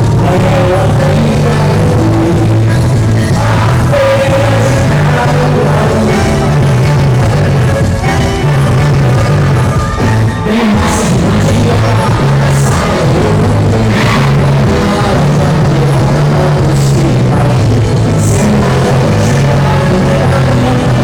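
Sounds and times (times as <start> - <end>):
moving bass line: 0.0 - 21.0
singing over a full band: 0.0 - 21.0.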